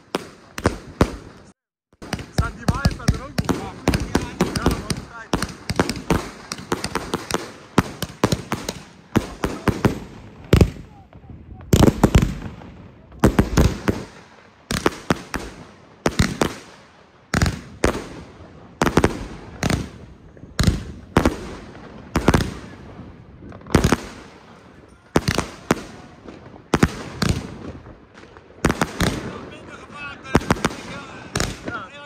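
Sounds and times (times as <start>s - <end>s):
firework bangs: 0.0s - 32.0s.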